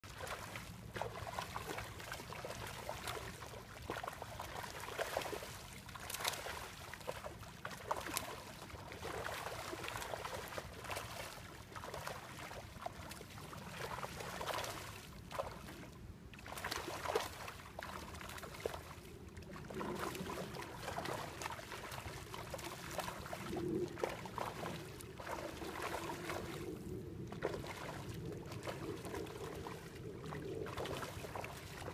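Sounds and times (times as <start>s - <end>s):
fish splashing at water surface: 0.1s - 15.8s, 16.4s - 31.9s.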